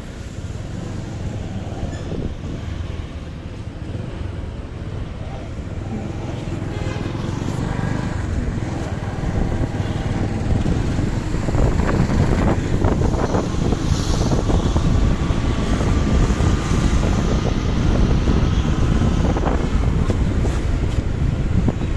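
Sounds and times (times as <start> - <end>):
road and traffic noise: 0.0 - 21.9
wind buffeting microphone: 0.9 - 3.5, 5.5 - 21.9.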